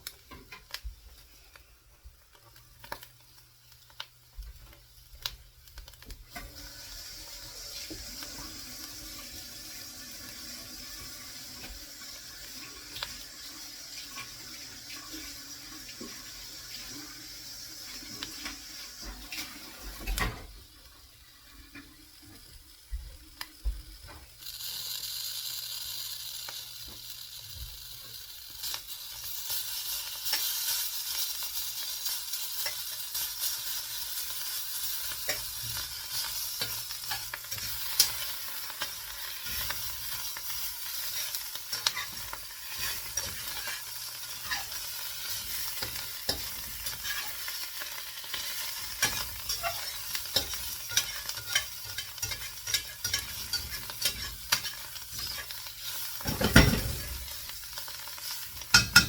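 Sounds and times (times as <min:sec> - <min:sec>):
omelette sizzling in a pan: 0:00.0 - 0:59.0
sharp pops and ticks of frying: 0:00.0 - 0:59.0.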